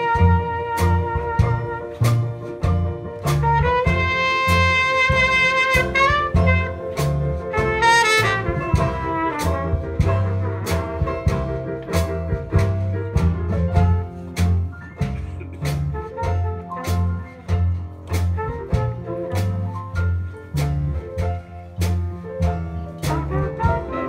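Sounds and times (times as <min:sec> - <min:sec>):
jazz band playing: 0:00.0 - 0:24.0
walking bass: 0:00.0 - 0:24.0.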